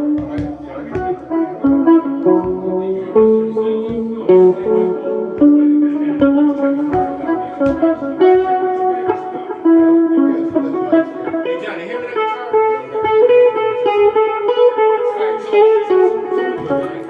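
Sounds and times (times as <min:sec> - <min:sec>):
guitar picked melody: 0:00.0 - 0:17.0.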